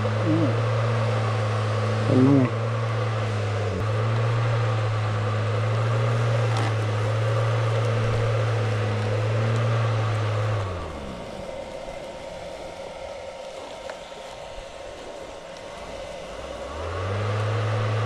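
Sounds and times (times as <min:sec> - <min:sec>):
small motor humming: 0:00.0 - 0:18.0
steady hiss: 0:00.0 - 0:18.0.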